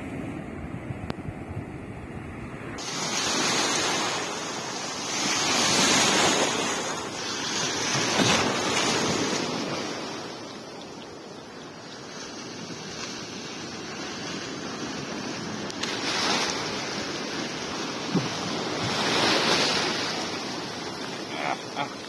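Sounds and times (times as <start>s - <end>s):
surf washing around legs: 2.8s - 22.0s.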